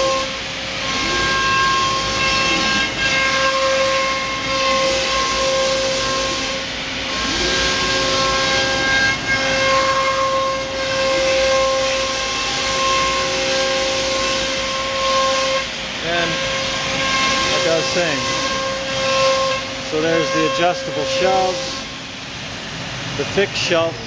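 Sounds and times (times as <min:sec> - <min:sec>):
router cutting with hiss and whine: 0:00.0 - 0:22.1.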